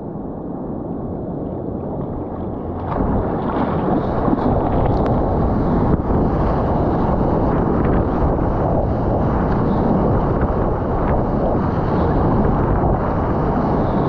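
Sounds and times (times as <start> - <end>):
surf rushing around a kayak: 0.0 - 14.0
wind buffeting microphone: 0.0 - 14.0.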